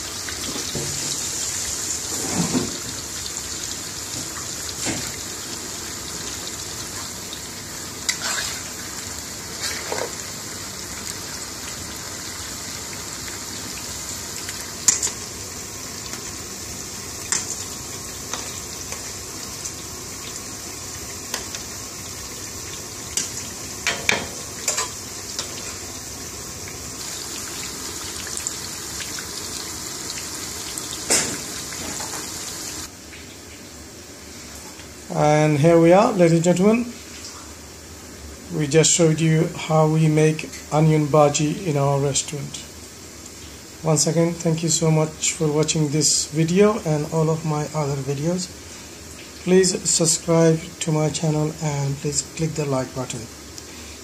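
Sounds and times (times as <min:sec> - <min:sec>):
food deep-frying in hot oil: 0:00.0 - 0:54.0.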